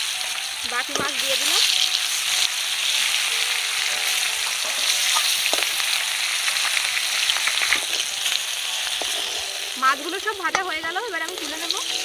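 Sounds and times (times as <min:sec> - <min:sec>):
fish frying in hot oil: 0:00.0 - 0:12.0
oil crackles and pops: 0:00.0 - 0:12.0.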